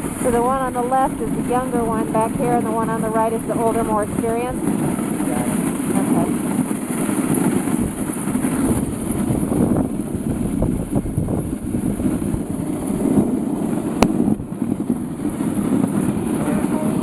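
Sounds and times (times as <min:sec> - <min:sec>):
dog sled rumbling over snow: 0:00.0 - 0:17.0.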